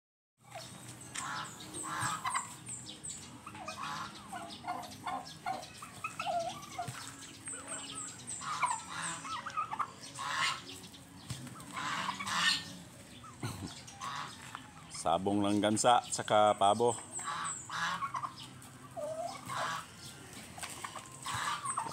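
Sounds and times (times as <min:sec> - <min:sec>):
turkeys gobbling: 0:00.4 - 0:15.0, 0:16.2 - 0:21.9
bird chirping high: 0:00.4 - 0:20.2, 0:20.8 - 0:21.9.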